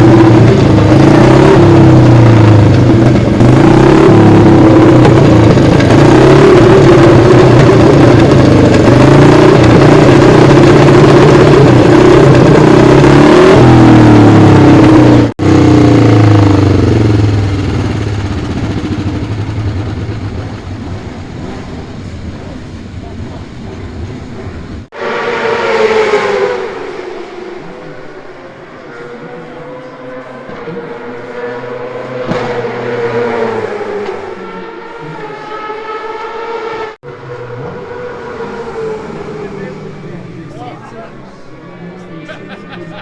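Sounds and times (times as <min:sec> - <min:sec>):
motorcycle engine at high revs: 0:00.0 - 0:21.2, 0:24.9 - 0:40.6.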